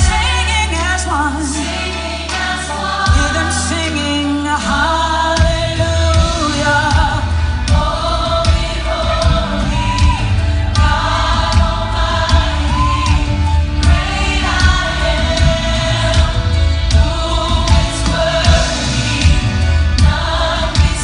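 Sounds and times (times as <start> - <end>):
worship song singing over a beat: 0.0 - 21.0.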